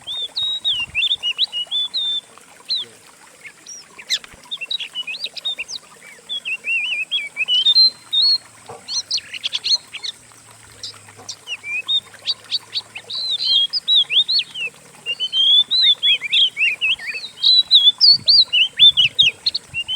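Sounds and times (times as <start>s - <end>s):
songbirds chirping and whistling: 0.0s - 19.9s.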